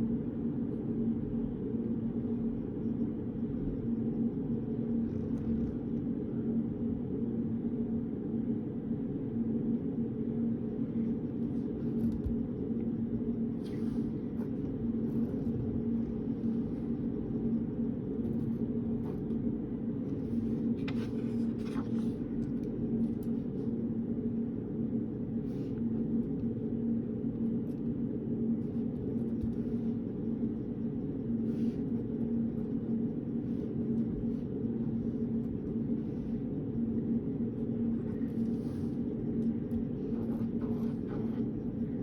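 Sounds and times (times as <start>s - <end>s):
low hum and rush: 0.0s - 42.0s.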